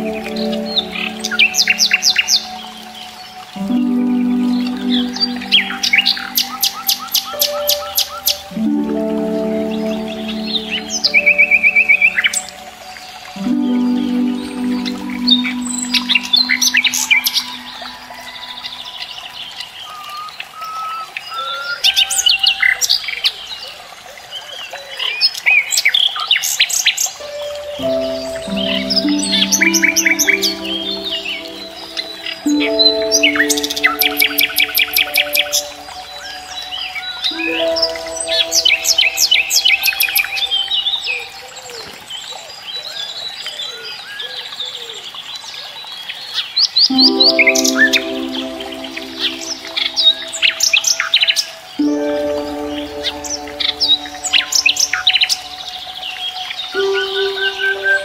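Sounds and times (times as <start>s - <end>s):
soft music with held notes: 0.0s - 20.8s, 26.4s - 43.9s, 46.7s - 58.0s
birds chirping and singing: 0.0s - 22.8s, 27.2s - 42.4s, 46.9s - 58.0s.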